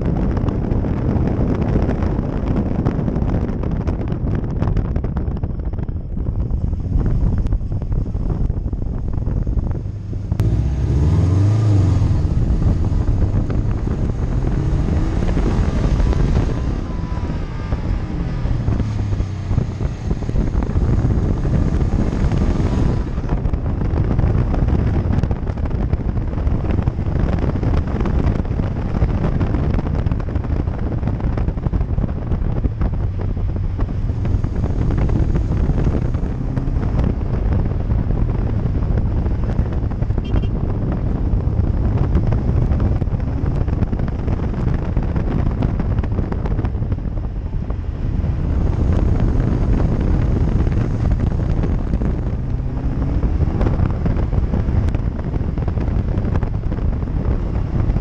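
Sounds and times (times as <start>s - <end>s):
wind buffeting microphone: 0.0s - 58.0s
car engine revving: 6.4s - 58.0s.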